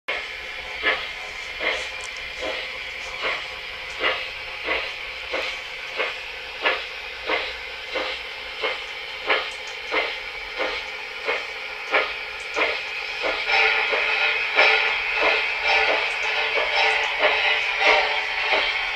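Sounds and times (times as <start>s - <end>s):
continuous steam hiss: 0.1s - 18.9s
model steam locomotive chuffing: 0.1s - 18.9s.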